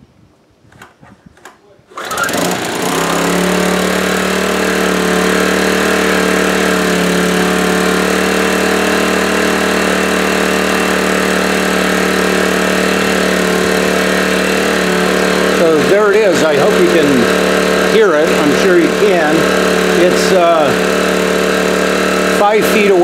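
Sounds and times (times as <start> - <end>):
small generator engine running: 1.9 - 23.0.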